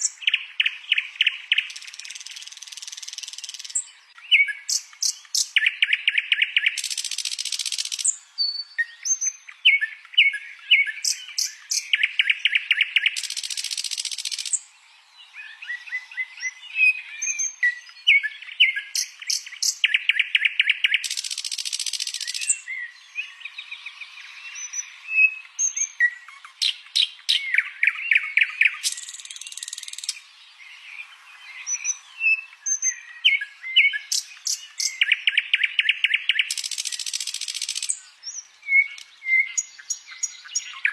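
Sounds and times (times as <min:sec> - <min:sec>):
songbird buzzy trills: 0:00.0 - 0:14.8, 0:15.7 - 0:40.9.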